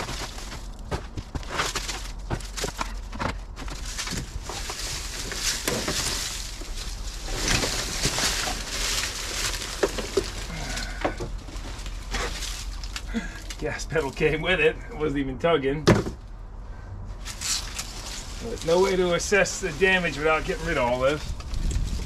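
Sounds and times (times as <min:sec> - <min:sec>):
debris rustling and scraping: 0:00.0 - 0:14.6, 0:17.1 - 0:22.0.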